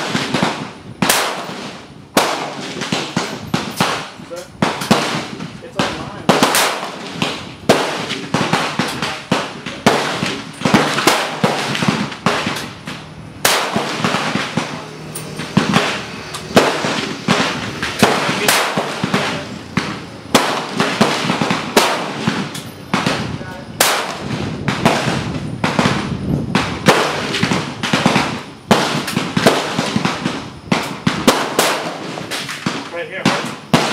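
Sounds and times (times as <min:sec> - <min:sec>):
rifle shots: 0:00.0 - 0:33.9.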